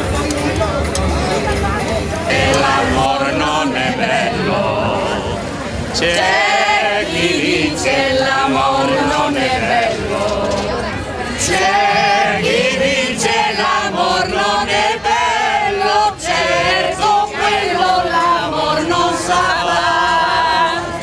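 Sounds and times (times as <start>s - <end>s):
group singing in chorus: 2.2s - 21.0s.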